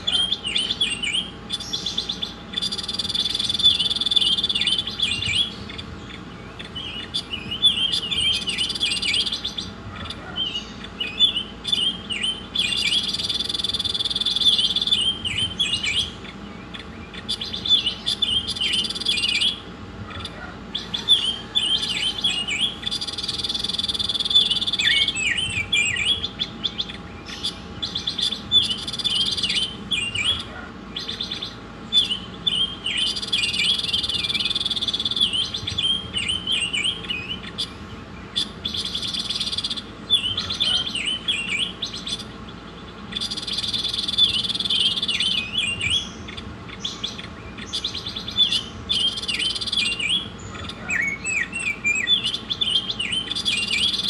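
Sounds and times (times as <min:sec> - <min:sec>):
songbird singing with trills: 0:00.0 - 0:54.0.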